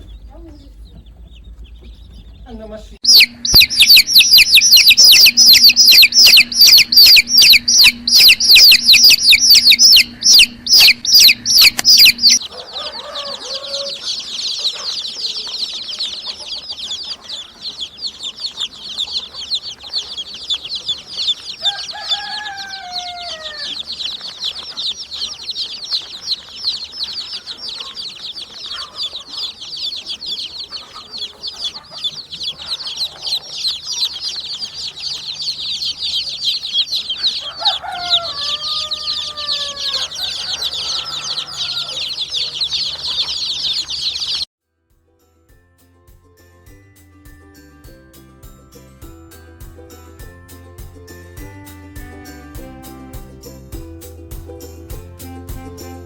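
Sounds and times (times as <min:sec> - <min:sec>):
chick peeping rapidly: 0:00.0 - 0:44.5, 0:51.3 - 0:56.0
chorus of chicks peeping: 0:00.0 - 0:44.5, 0:48.8 - 0:56.0.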